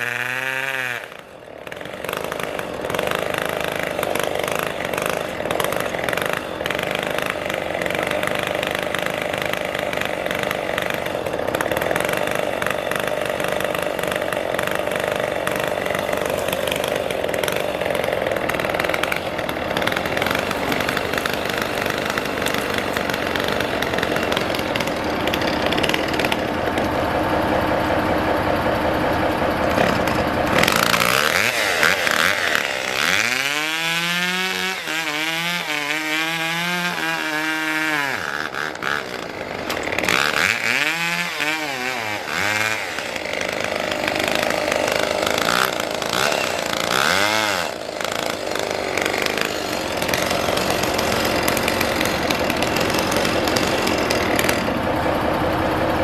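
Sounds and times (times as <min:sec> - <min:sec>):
chainsaw running at high revs: 0:00.0 - 0:56.0.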